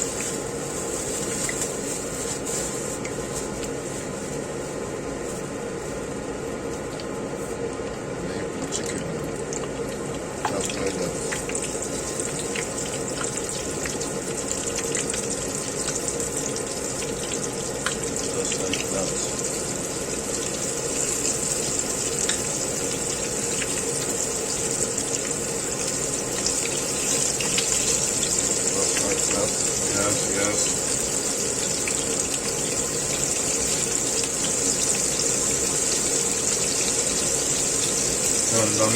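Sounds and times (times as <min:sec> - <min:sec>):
chicken frying in hot oil: 0:00.0 - 0:05.2, 0:08.3 - 0:38.9.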